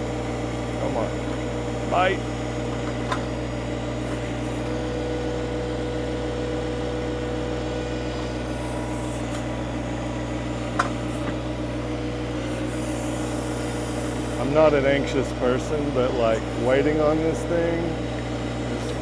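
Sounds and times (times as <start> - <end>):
steady whine: 0.0 - 19.0
tractor diesel engine running: 0.0 - 19.0.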